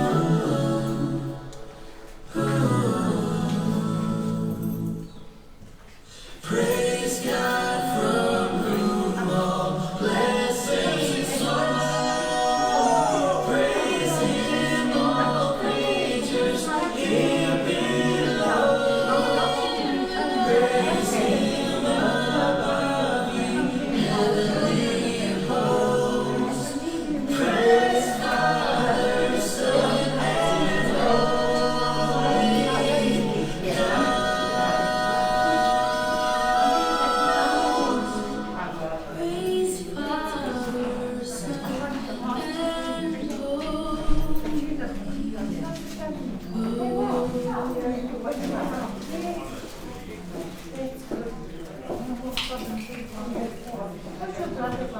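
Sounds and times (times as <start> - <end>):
choir singing a hymn: 0.0 - 50.6.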